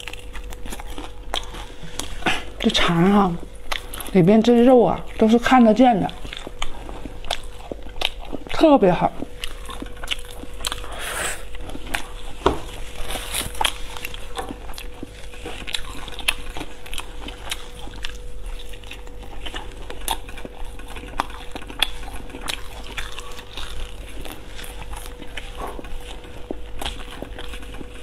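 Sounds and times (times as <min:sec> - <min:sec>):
person chewing food: 0:00.0 - 0:04.2, 0:05.0 - 0:28.0
faint steady hum: 0:00.0 - 0:28.0.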